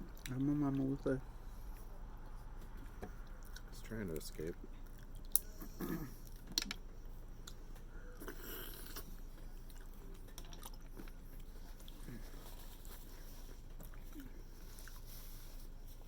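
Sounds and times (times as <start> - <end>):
person chewing food: 1.6 - 3.7, 4.6 - 16.0.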